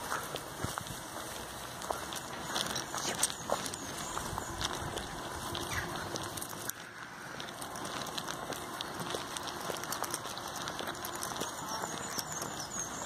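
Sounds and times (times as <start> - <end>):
footsteps walking through grass: 0.0 - 13.0.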